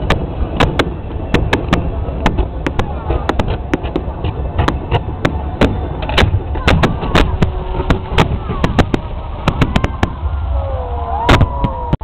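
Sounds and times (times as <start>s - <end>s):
fireworks banging: 0.0s - 10.6s, 11.2s - 12.0s
low rumble: 0.0s - 12.0s.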